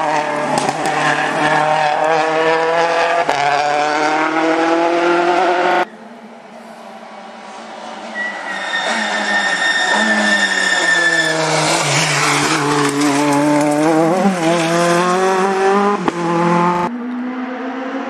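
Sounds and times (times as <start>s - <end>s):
rally car engine revving: 0.0s - 5.9s, 7.4s - 18.0s.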